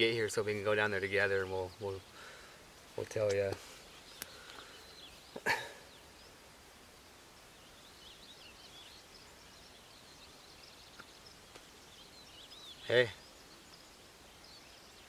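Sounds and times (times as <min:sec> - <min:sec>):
faint birds chirping and trilling: 0:00.0 - 0:15.0.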